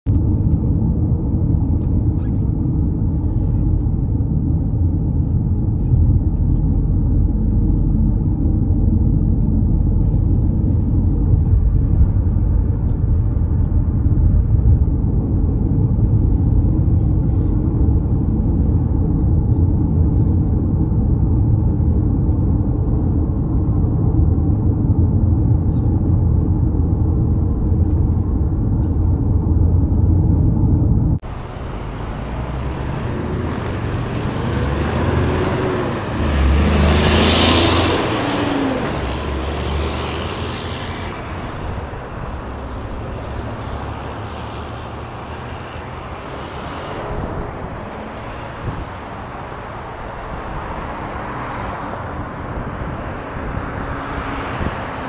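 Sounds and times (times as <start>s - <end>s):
car cabin road rumble: 0.0s - 55.0s.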